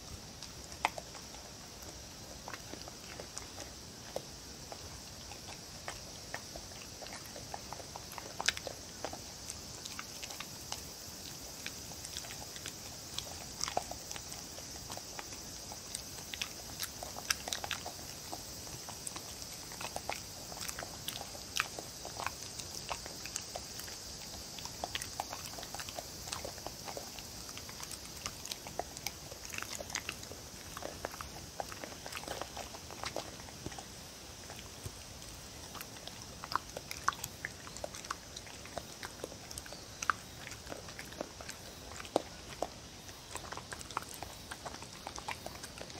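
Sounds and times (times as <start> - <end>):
dog chewing soft food: 0.0 - 45.9
teeth and tongue clicks: 0.0 - 45.9.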